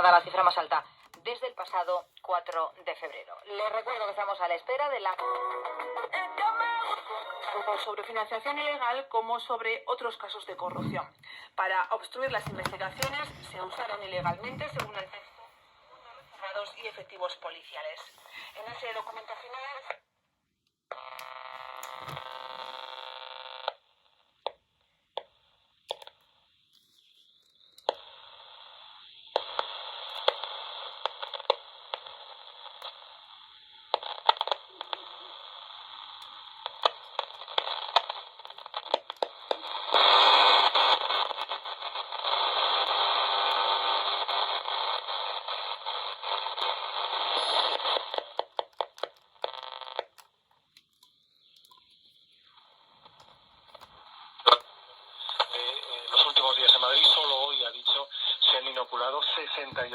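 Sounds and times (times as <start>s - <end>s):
radio static hiss with crackles: 0.0s - 6.1s, 6.7s - 20.1s, 20.9s - 59.9s.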